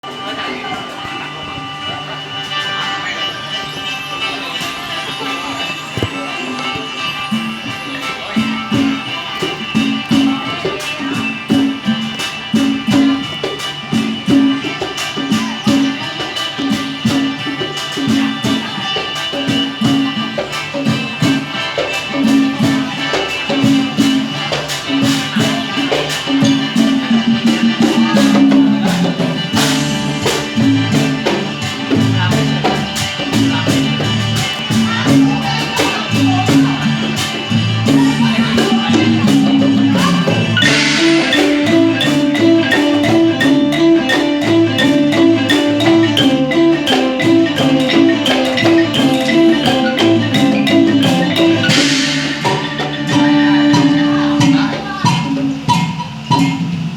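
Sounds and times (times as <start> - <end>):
wooden xylophone melody: 0.0 - 56.9
sharp percussion clicks: 3.9 - 56.9.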